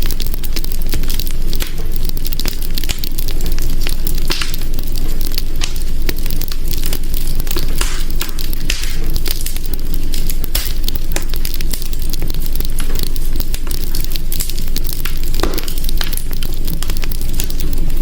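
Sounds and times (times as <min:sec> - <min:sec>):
low rumble of fire: 0:00.0 - 0:18.0
wood fire crackling: 0:00.0 - 0:18.0.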